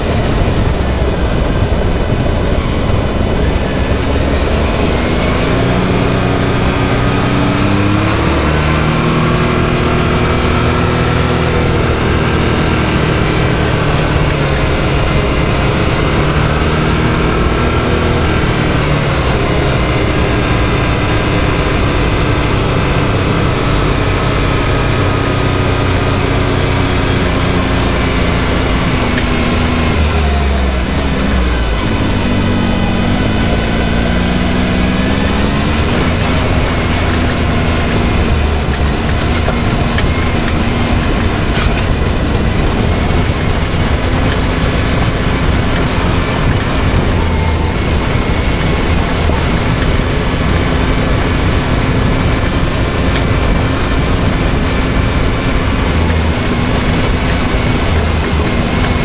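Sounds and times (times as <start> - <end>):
engine running: 0.0 - 59.0
wind and tyre noise: 0.0 - 59.0.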